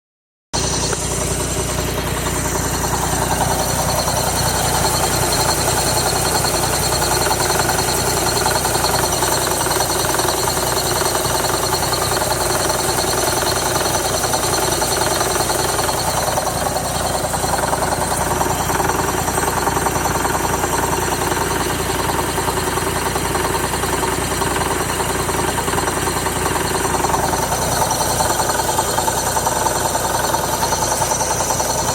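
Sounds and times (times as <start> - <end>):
car engine idling with knocking: 0.5 - 31.9.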